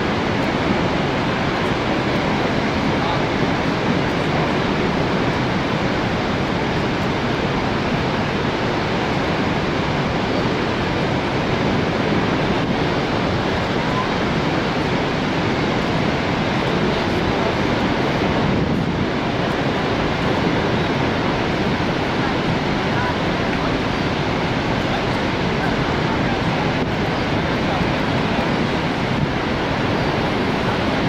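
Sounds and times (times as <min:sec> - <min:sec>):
loud rush of falling water: 0:00.0 - 0:31.0.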